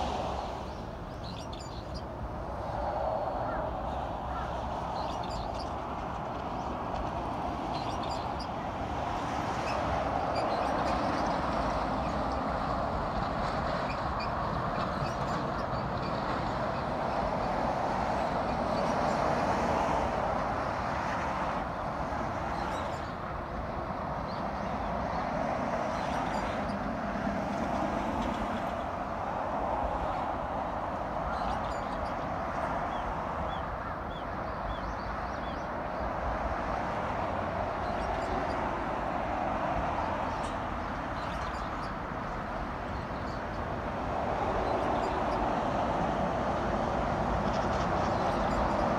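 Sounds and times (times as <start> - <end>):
expressway traffic hum: 0.0 - 48.9.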